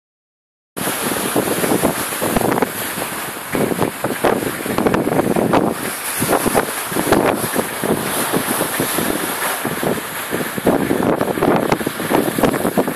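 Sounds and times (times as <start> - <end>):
gusty wind buffeting microphone: 0.8 - 12.9
surf breaking against sea wall: 0.8 - 12.9.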